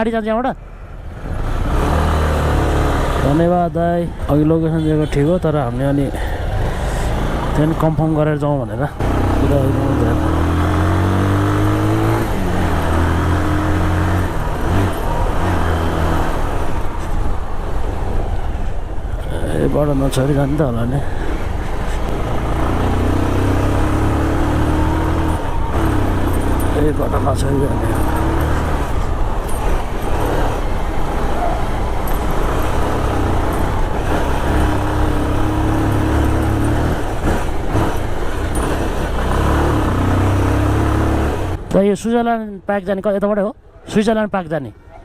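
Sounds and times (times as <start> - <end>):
motorcycle engine hum: 0.0 - 41.7
road and traffic noise: 0.0 - 45.0.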